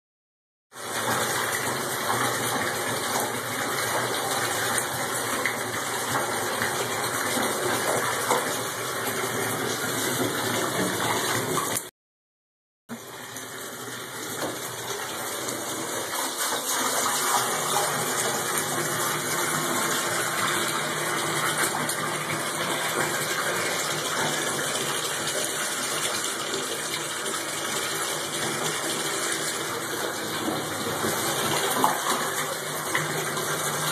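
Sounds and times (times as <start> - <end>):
tap water running into bathtub: 0.7 - 11.9, 12.9 - 33.9.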